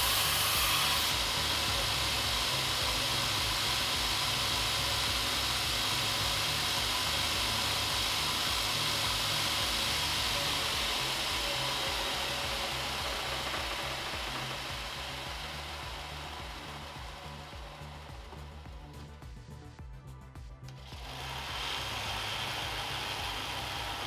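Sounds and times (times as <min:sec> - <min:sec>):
belt grinder running: 0:00.0 - 0:19.1, 0:20.7 - 0:24.0.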